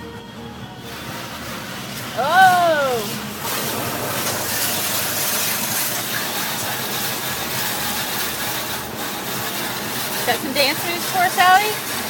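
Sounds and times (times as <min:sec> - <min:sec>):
car wash spraying water: 0:00.4 - 0:12.0.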